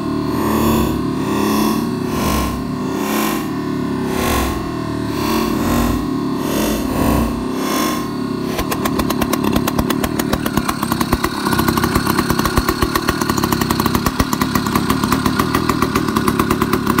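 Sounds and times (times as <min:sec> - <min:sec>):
two-stroke engine popping exhaust: 0:00.0 - 0:17.0.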